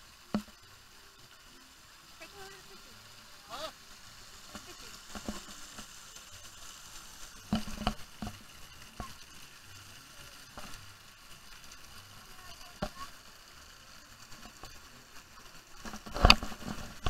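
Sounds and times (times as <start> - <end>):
spraying and running water: 0.0 - 17.0.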